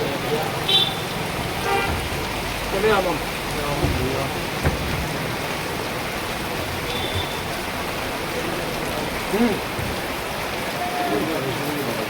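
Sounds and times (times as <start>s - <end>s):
rain falling and running: 0.0s - 12.0s.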